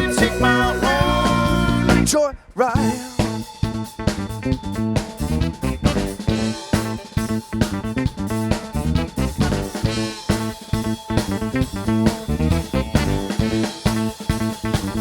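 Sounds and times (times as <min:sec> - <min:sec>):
guitar: 0:00.0 - 0:02.2, 0:02.8 - 0:15.0
bass guitar: 0:00.0 - 0:15.0
drum kit beat: 0:00.0 - 0:15.0.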